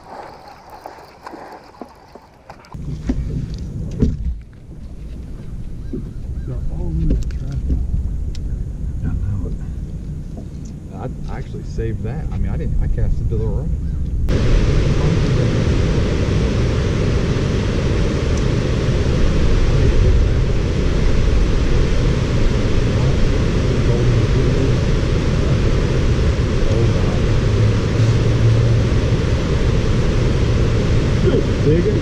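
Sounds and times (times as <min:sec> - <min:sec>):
rushing noise with low rumble: 0:05.7 - 0:32.0.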